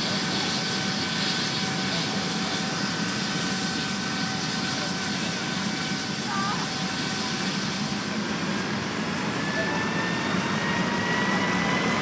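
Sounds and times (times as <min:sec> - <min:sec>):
helicopter turbine whine: 0:00.0 - 0:12.0
rotor and engine rush: 0:00.0 - 0:12.0.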